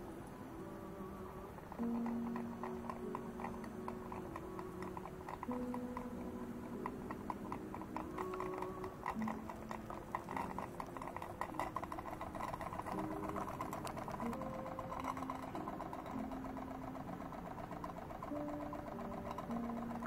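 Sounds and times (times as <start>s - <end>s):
held tones shifting pitch: 0.0s - 20.0s
model steam engine ticking: 0.0s - 20.0s.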